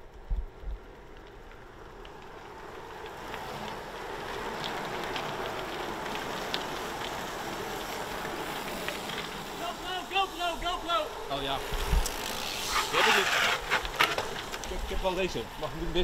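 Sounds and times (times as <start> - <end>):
bikes rushing past on asphalt: 0.0 - 16.0.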